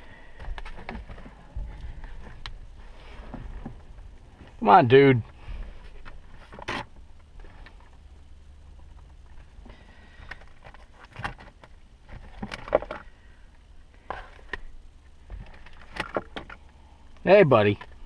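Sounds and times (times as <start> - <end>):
low hum: 0.0 - 18.0
objects handled in console: 0.3 - 4.6, 5.2 - 17.2.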